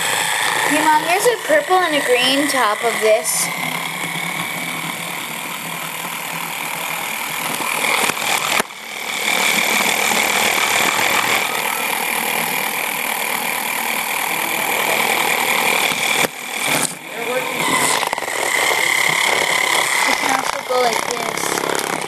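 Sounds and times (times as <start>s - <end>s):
spinning top whirring: 0.0s - 22.0s.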